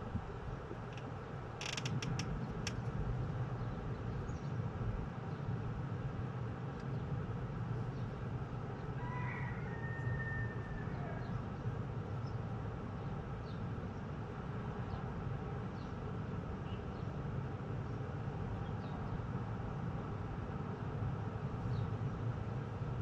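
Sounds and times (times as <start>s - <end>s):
low outdoor hum: 0.0s - 23.0s.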